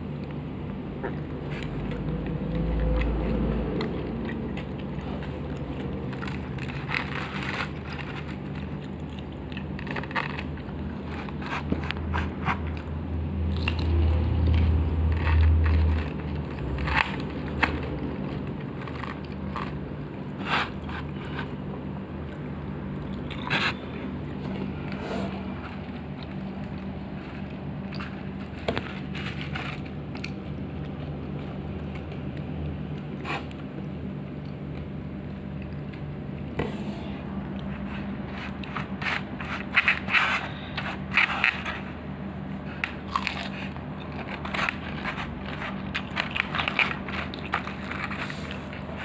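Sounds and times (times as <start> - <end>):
crunching fried chicken: 0.0 - 36.5, 37.3 - 49.0.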